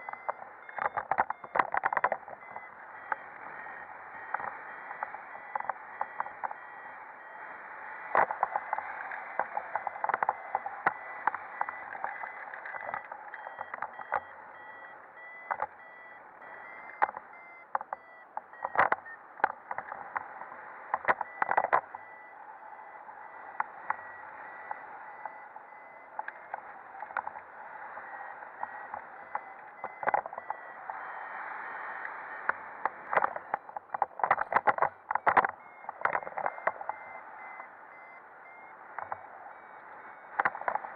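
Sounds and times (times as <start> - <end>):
thin high tone and beeps: 0.0 - 31.2, 33.2 - 40.9.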